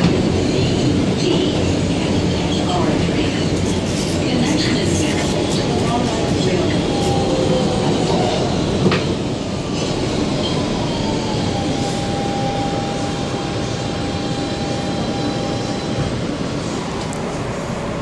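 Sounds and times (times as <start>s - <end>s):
subway car running rumble: 0.0s - 18.0s.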